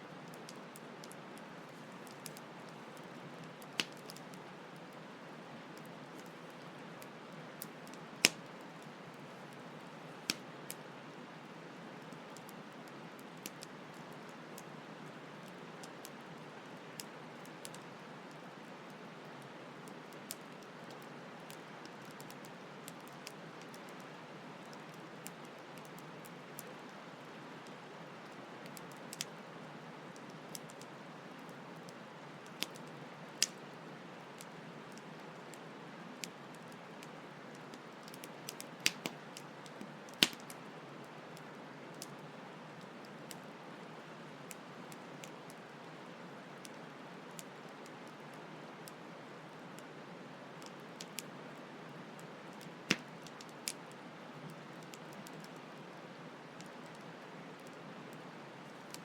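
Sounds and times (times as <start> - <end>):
campfire crackling and popping: 0.2 - 5.0, 5.8 - 43.6, 44.4 - 49.9, 50.6 - 51.4, 52.1 - 55.8, 56.5 - 59.0.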